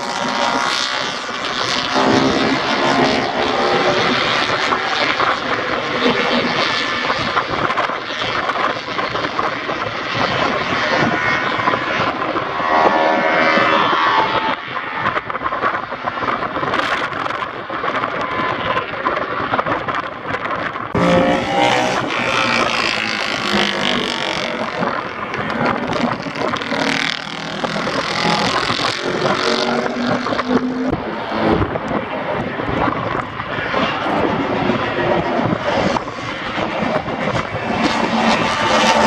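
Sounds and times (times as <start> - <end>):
racing motorcycles passing: 0.0 - 15.3, 20.9 - 39.0.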